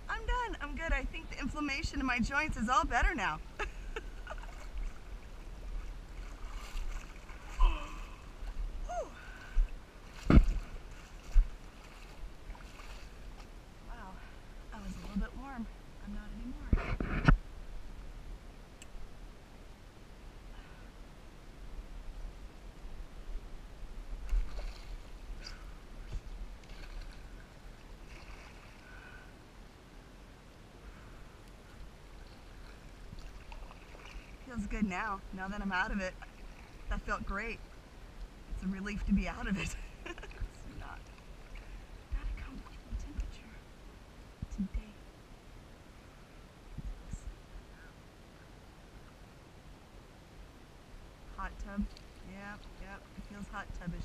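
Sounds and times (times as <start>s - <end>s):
river water sloshing: 0.0s - 16.0s, 17.4s - 44.4s, 45.0s - 54.0s
wind rumble on microphone: 0.0s - 29.2s, 30.2s - 45.1s, 45.7s - 48.0s.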